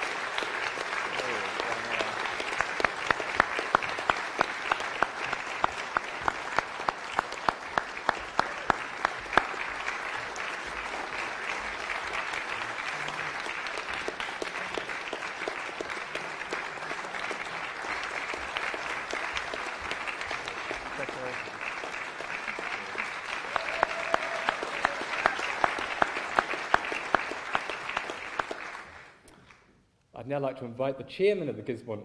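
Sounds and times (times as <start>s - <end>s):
audience applauding: 0.0s - 29.7s
close loud clapping: 0.0s - 29.7s.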